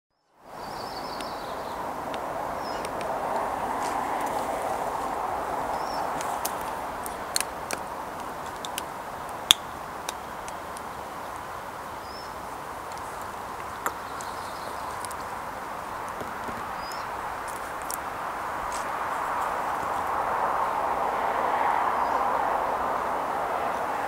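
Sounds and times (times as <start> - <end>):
outdoor rushing background: 1.0 - 11.7, 15.1 - 24.0.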